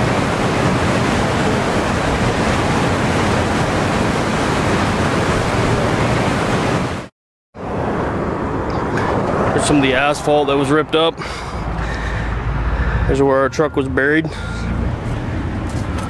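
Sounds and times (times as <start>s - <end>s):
flood water rushing: 0.0s - 13.2s.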